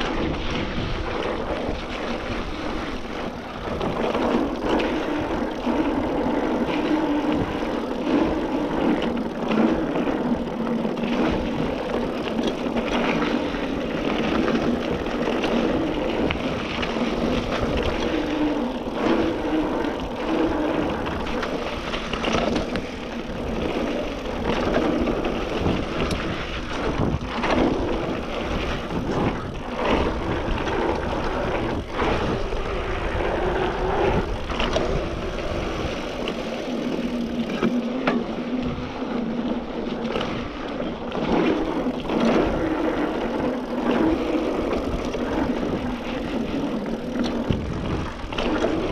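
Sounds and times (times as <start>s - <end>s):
bike clunking and rattling: 0.0s - 48.9s
wind and tyre noise: 0.0s - 48.9s.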